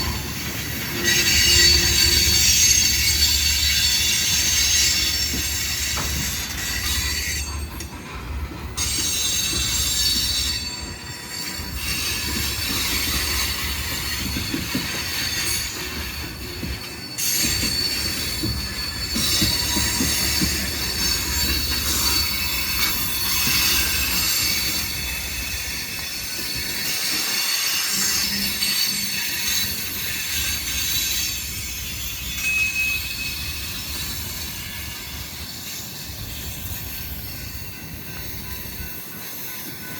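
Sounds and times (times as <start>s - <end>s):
freight train cars rumbling: 0.0s - 39.9s
train wheel squeal: 0.0s - 39.9s.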